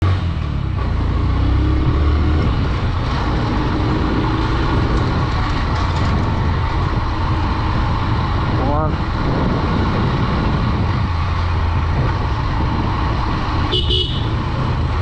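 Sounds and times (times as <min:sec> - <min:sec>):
motorcycle engine running: 0:00.0 - 0:15.0
wind rumble on microphone: 0:00.0 - 0:15.0.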